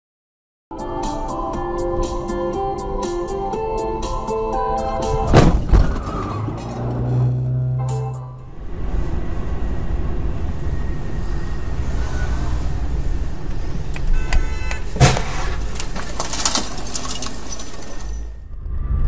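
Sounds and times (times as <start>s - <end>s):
road and engine rumble: 1.1s - 19.0s.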